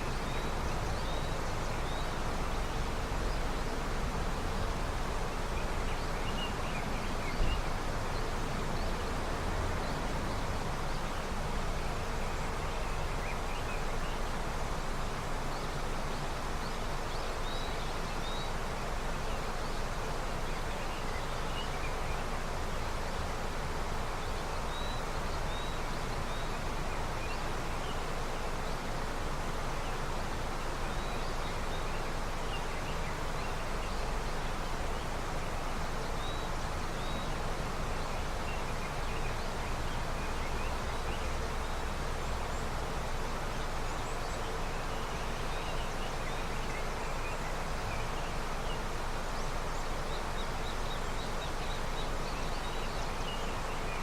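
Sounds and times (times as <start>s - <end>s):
river flowing: 0.0s - 54.0s
small birds chirping: 0.0s - 54.0s.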